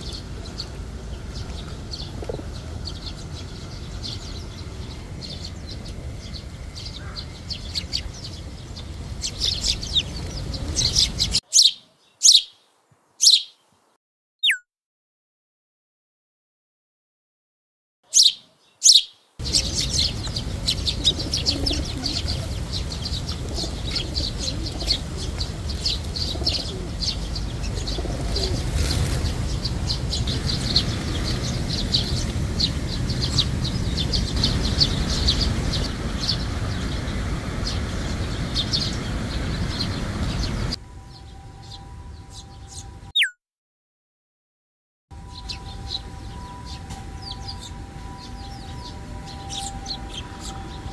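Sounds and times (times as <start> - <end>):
sparrows chirping: 0.0 - 14.6, 18.1 - 43.4, 45.2 - 50.9.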